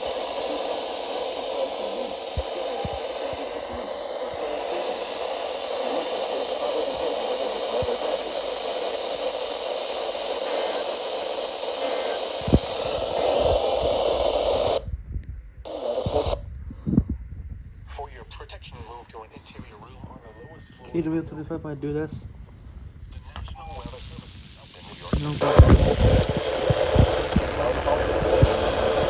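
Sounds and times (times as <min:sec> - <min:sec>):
radio static hiss: 0:00.0 - 0:14.9, 0:15.7 - 0:16.9, 0:17.8 - 0:22.1, 0:22.7 - 0:29.0.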